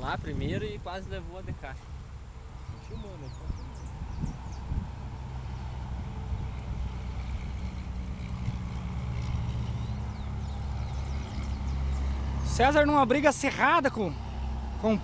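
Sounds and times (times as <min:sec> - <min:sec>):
low engine drone: 0:01.9 - 0:15.0.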